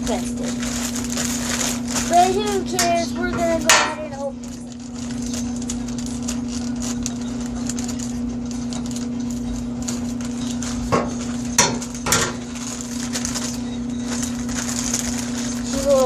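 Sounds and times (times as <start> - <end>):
package being opened: 0.4 - 3.0, 4.3 - 16.0.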